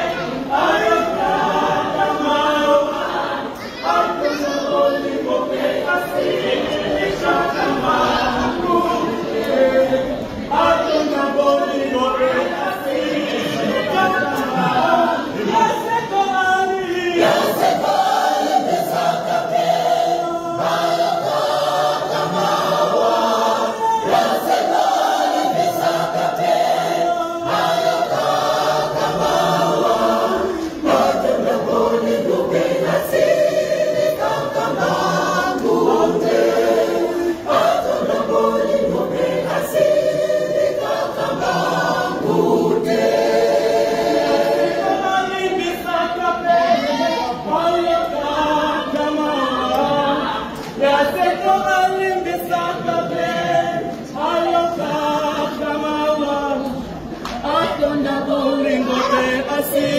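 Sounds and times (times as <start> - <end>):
choir singing gospel song: 0.0 - 59.9.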